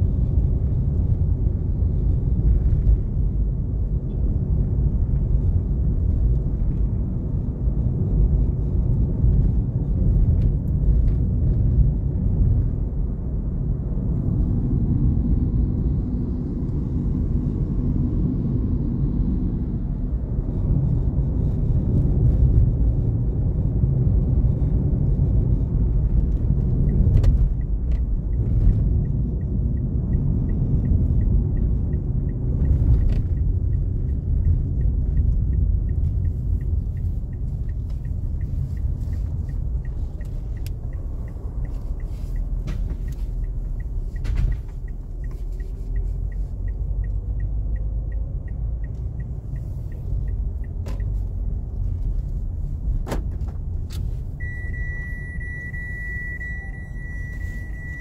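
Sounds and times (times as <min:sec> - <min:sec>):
turn signal ticking: 0:00.0 - 0:19.3, 0:19.9 - 0:58.0
car cabin road noise: 0:00.0 - 0:58.0.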